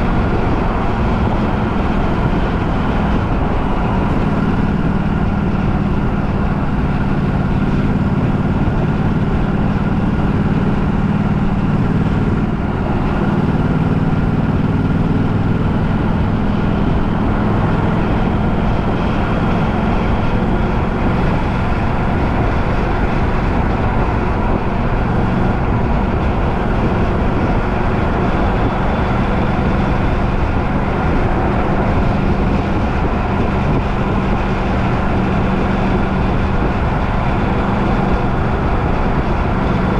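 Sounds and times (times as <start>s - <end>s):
road travel noise: 0.0s - 39.9s
vehicle engine hum: 0.0s - 39.9s.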